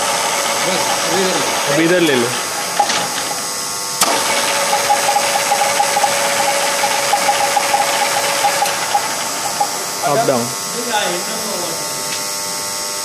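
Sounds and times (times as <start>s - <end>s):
milling machine gear whine: 0.0s - 12.2s.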